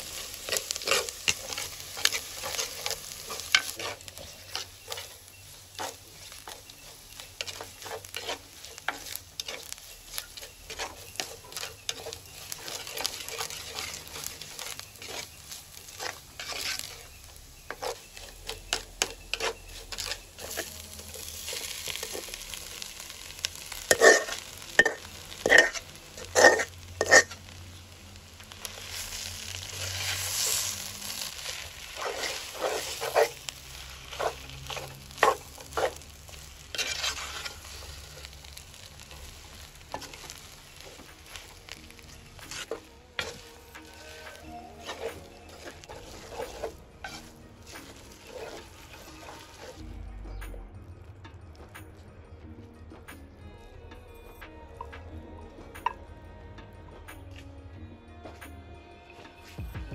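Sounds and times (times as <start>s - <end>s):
food sizzling in hot oil: 0.0s - 49.8s
wooden spoon stirring and scraping: 0.0s - 49.8s.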